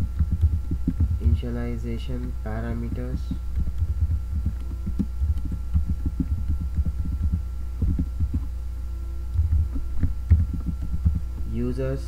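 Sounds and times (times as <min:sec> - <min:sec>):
steady electrical hum: 0:00.0 - 0:12.0
keyboard typing: 0:00.1 - 0:01.4, 0:02.0 - 0:08.5, 0:09.3 - 0:11.3.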